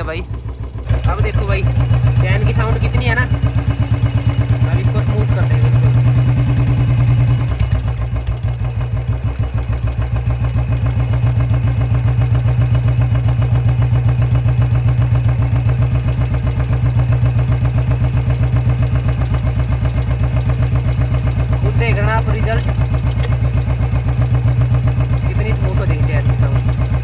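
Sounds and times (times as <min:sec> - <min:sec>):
dry drive chain noise: 0:00.0 - 0:27.0
motorcycle engine idling: 0:00.0 - 0:27.0.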